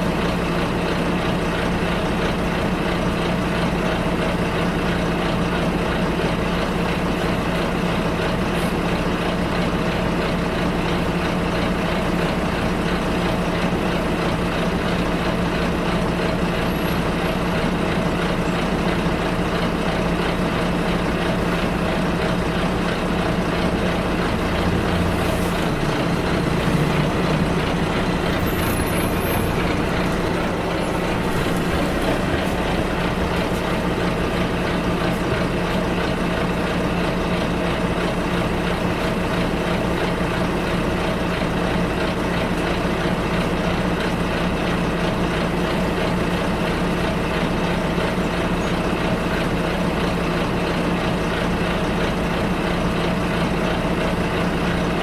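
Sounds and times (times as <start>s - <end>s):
bus engine drone: 0.0s - 55.0s
road and tyre noise: 0.0s - 55.0s.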